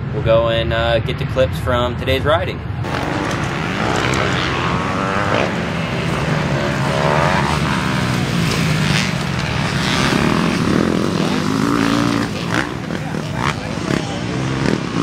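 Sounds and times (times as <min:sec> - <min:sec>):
dirt bike engines revving: 0:02.1 - 0:15.0.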